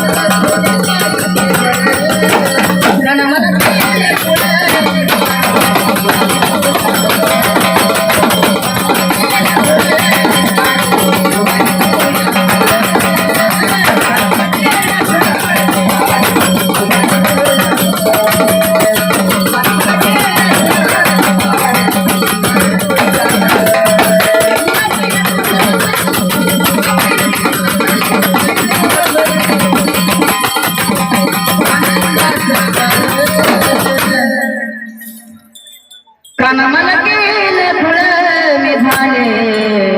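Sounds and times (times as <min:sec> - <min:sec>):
folk instrumental music with percussion: 0:00.0 - 0:37.1, 0:38.6 - 0:39.9.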